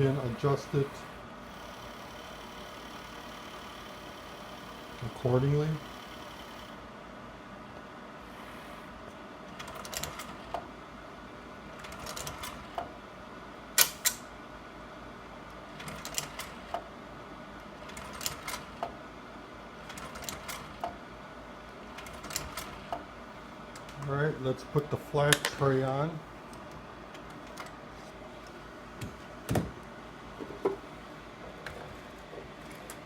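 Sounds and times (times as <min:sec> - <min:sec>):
projector fan hum: 0:00.0 - 0:33.0.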